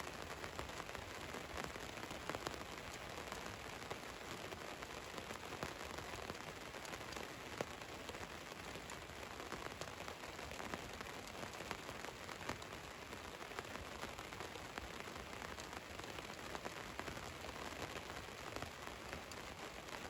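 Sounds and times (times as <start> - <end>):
rain on a van roof: 0.0 - 20.0.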